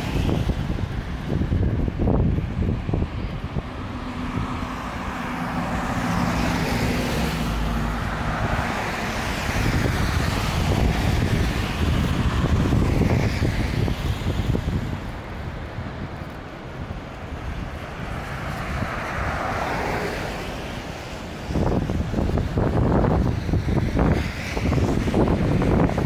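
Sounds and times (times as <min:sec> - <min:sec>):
cars passing on wet road: 0:00.0 - 0:26.0.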